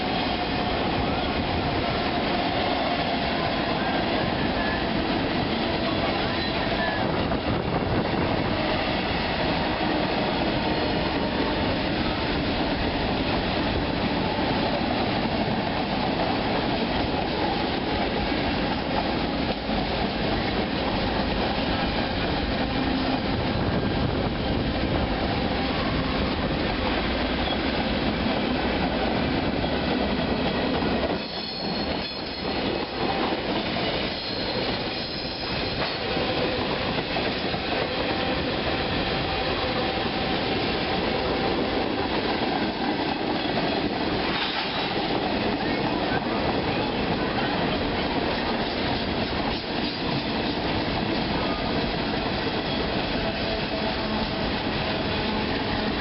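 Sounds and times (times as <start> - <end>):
train cars rolling on rails: 0.0 - 56.0.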